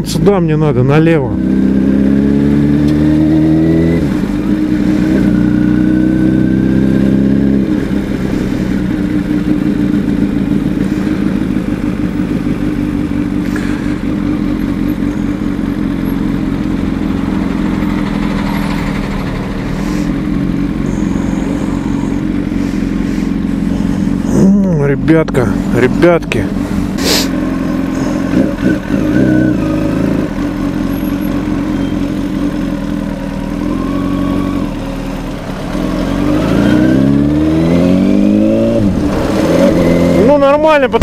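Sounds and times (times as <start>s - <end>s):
motorcycle engine at low revs: 0.0s - 41.0s.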